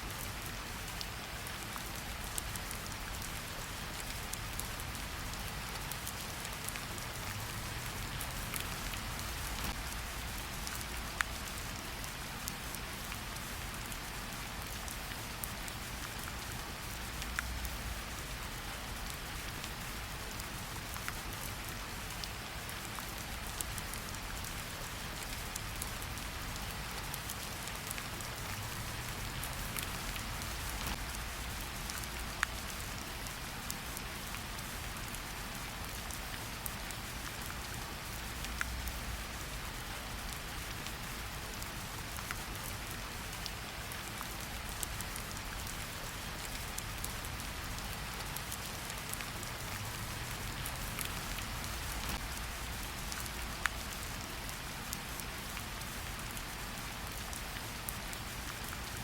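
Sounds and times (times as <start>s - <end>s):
steady rain in forest: 0.0s - 59.0s
raindrops ticking close by: 0.1s - 59.0s.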